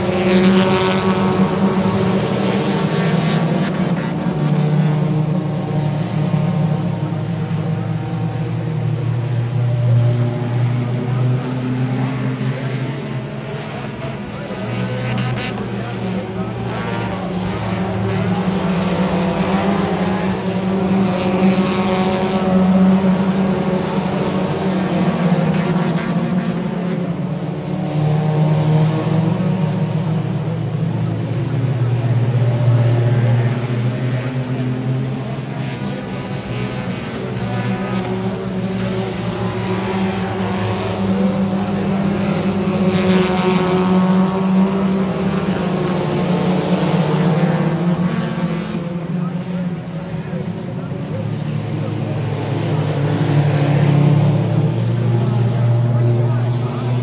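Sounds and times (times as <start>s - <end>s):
race car engines droning: 0.0s - 57.0s
race car passing close: 0.0s - 57.0s.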